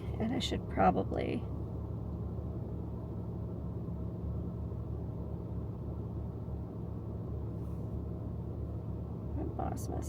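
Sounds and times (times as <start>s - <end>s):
car interior rumble and hum: 0.0s - 10.0s.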